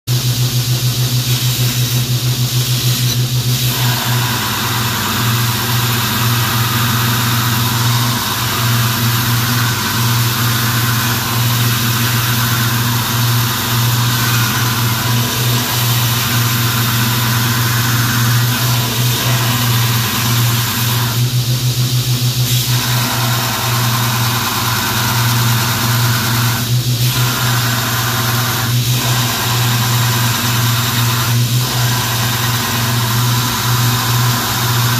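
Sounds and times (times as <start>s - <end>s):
steel grinding hiss: 0.9s - 21.5s, 22.4s - 34.9s
belt grinder motor hum: 1.0s - 34.9s.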